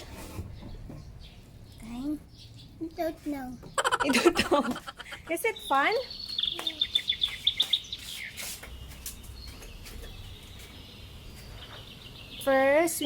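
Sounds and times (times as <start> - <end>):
bird chirping: 0.3 - 13.0.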